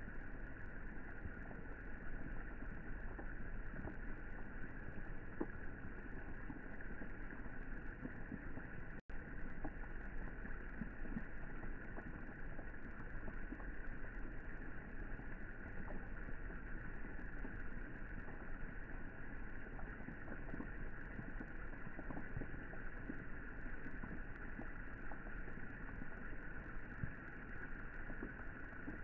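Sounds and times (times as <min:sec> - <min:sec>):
rain falling on water: 0:00.0 - 0:29.0
small ticks: 0:00.0 - 0:29.0.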